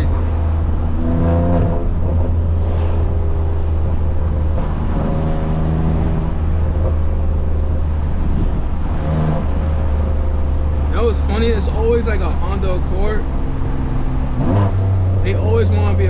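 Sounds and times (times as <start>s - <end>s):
car engine deep exhaust drone: 0.0s - 16.0s.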